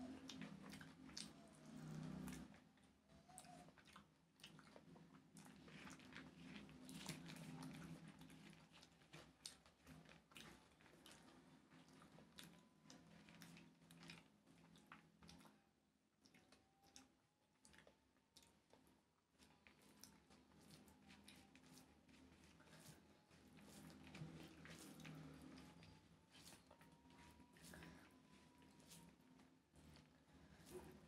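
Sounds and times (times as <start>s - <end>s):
chewing with wet mouth clicks: 0.0s - 31.0s
fingers squishing rice: 0.0s - 31.0s.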